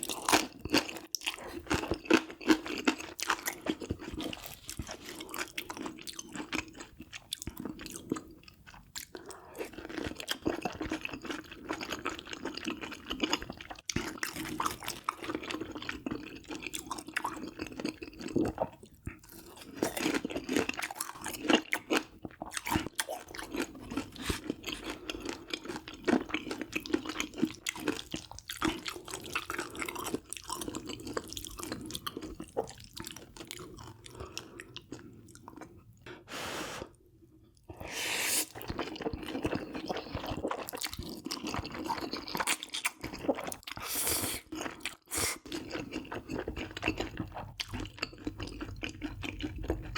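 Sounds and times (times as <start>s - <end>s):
person chewing and crunching: 0.0s - 36.8s, 37.6s - 49.9s.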